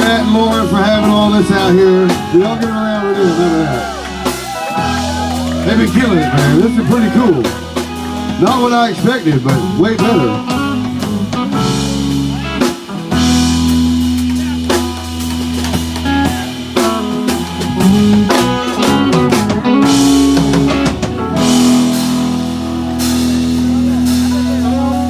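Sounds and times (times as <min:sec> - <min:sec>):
country-rock band instrumental: 0:00.0 - 0:25.0.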